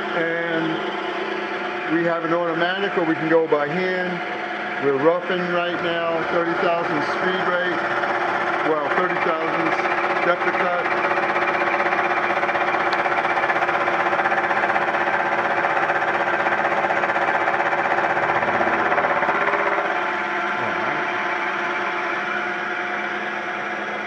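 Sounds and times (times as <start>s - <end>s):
milling machine cutting metal: 0.0s - 24.0s.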